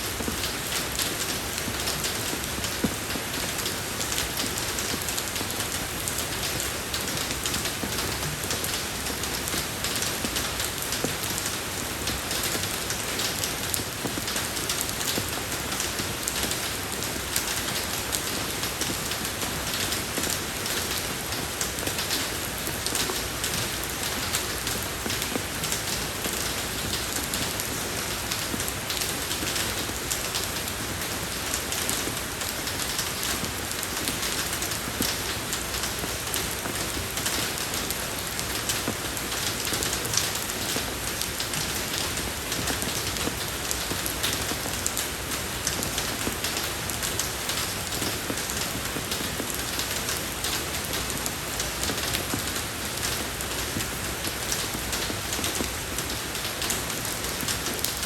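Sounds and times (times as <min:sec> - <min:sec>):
rain falling on road: 0:00.0 - 0:58.0.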